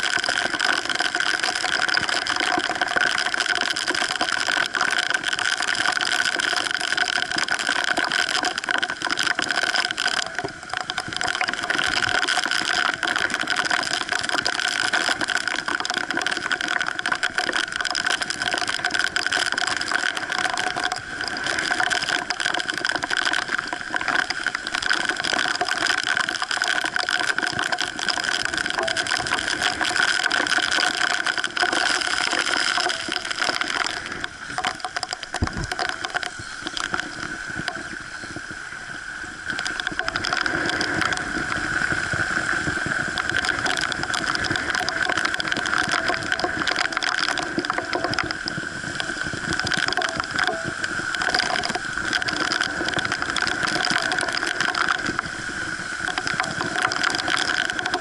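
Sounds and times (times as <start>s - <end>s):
water splashing: 0.0s - 58.0s.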